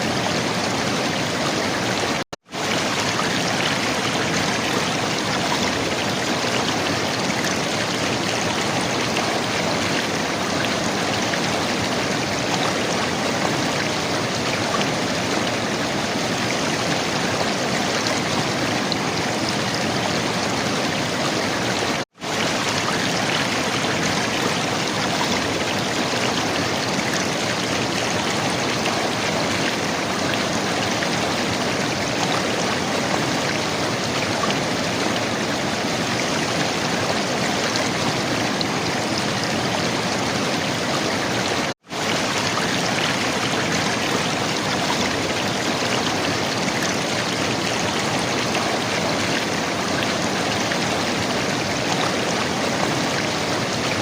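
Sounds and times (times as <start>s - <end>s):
river water gurgling: 0.0s - 54.0s.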